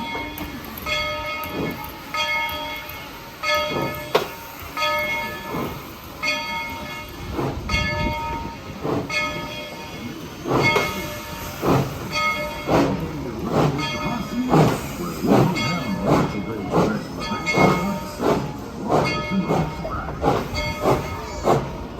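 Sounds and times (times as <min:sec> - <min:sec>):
steam locomotive exhaust chuffing: 0:00.0 - 0:21.9.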